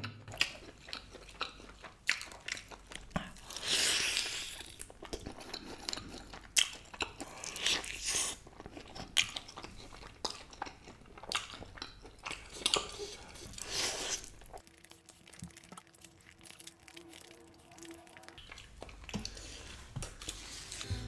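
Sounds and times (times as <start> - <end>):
chewing and biting: 0.0 - 21.0.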